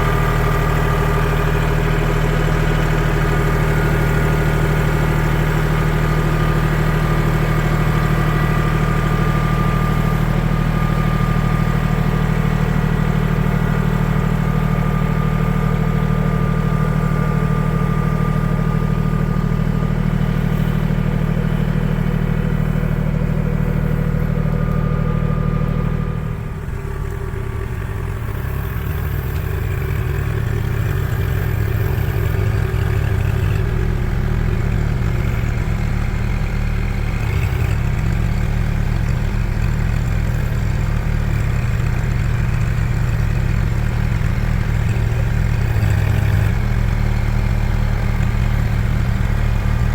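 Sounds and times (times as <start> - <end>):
engine running: 0.0 - 49.9.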